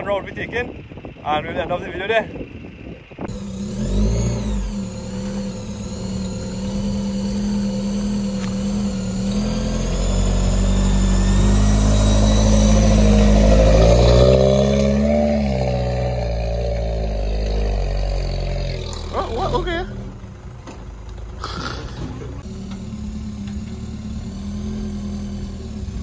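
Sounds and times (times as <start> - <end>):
vehicle engine revving: 3.2 - 20.6, 21.3 - 26.0.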